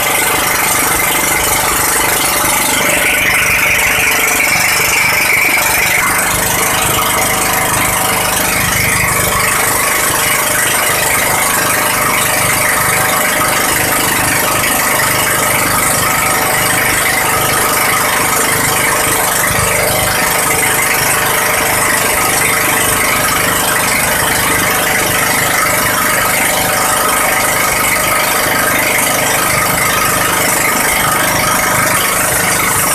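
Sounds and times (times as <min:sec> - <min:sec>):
motor running: 0:00.0 - 0:32.9.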